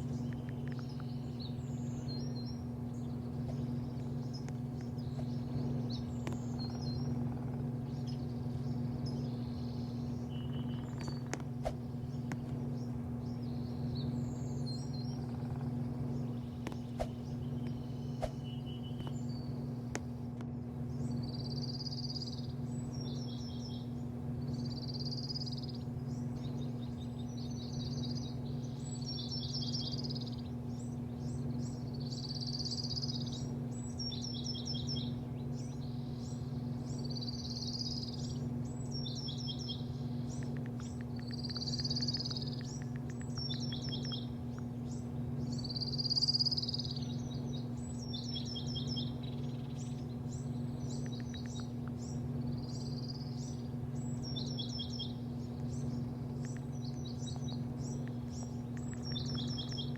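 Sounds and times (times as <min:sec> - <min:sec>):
birds chirping: 0:00.0 - 0:19.8, 0:20.8 - 0:59.9
low machinery hum: 0:00.0 - 0:59.9.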